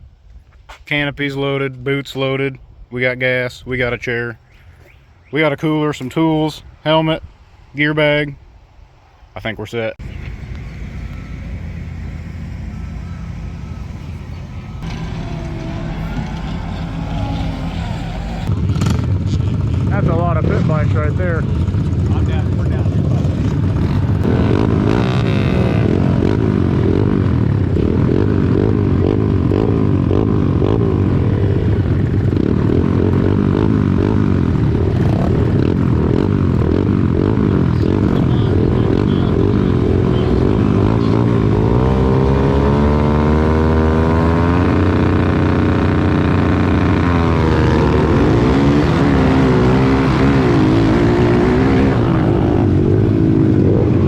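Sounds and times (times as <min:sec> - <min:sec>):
pit bike engines revving: 0:10.0 - 0:54.0.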